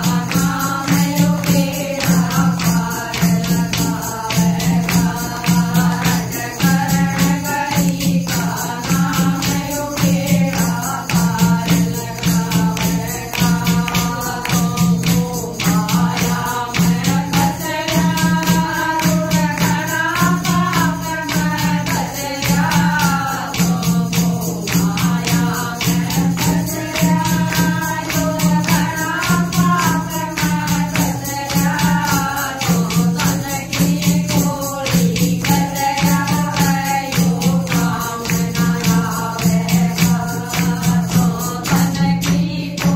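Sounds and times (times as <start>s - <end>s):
clay pot drum beat: 0.0s - 42.9s
hand-clapping: 0.0s - 42.9s
women singing together: 0.0s - 42.9s.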